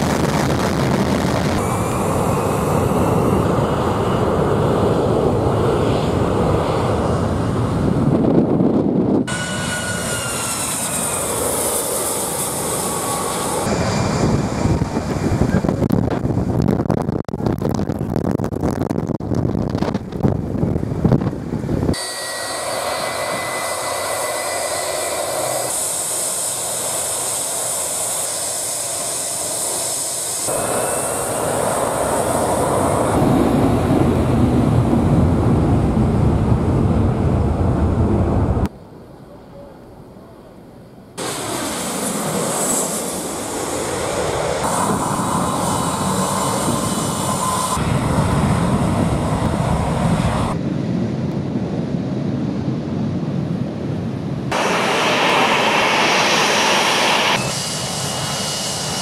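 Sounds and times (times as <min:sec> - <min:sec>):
wind buffeting microphone: 0:00.0 - 0:22.0, 0:22.9 - 0:38.7, 0:43.6 - 0:59.0
jet blast rushing: 0:00.0 - 0:38.7, 0:41.2 - 0:52.0, 0:54.4 - 0:59.0
jet engine whine: 0:00.0 - 0:59.0.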